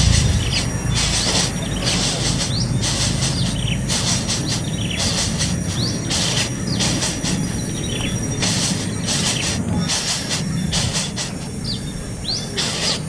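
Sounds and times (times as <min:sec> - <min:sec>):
birds chirping in hissy bursts: 0:00.0 - 0:13.0.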